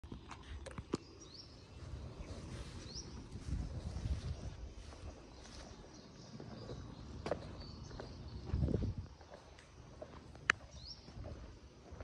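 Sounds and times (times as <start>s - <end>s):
bird chirp: 0.0s - 12.0s.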